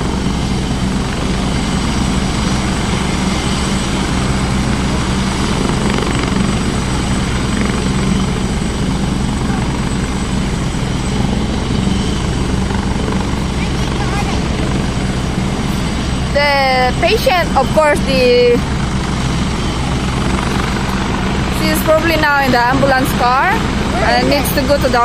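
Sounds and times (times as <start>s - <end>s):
helicopter engines and rotor running: 0.0s - 25.0s
high-pitched turbine whine: 0.0s - 25.0s.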